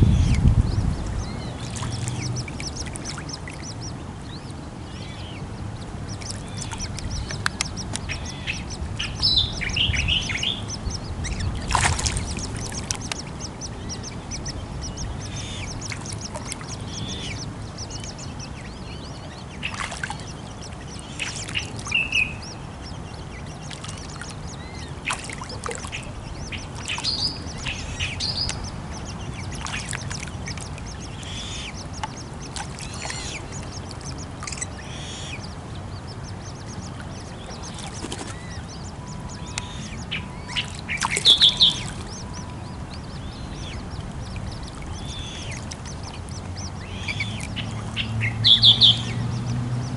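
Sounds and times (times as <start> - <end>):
birds chirping: 0.0 - 49.9
harsh bird calls: 0.0 - 49.9
low steady rumble: 0.0 - 49.9.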